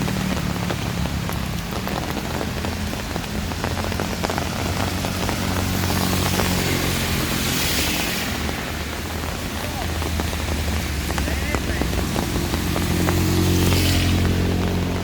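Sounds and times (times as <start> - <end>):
heavy rain on hard surfaces: 0.0 - 15.0.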